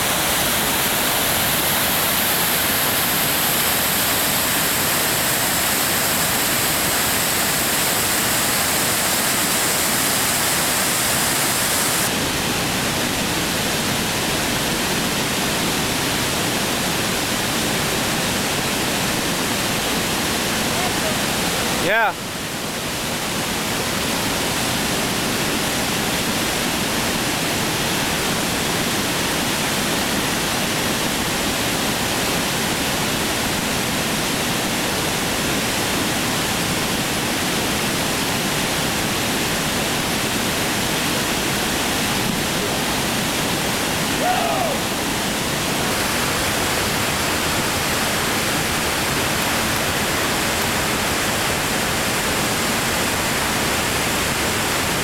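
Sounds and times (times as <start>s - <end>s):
water rushing over rapids: 0.0s - 55.0s.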